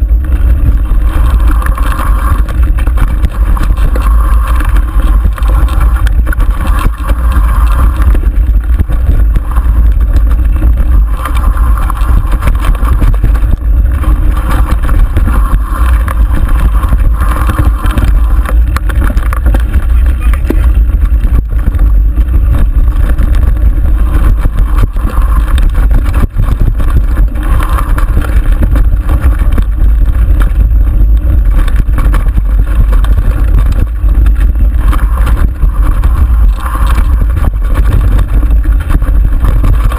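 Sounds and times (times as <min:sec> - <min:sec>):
bike rattling and jolting: 0:00.0 - 0:39.9
wind buffeting microphone: 0:00.0 - 0:39.9.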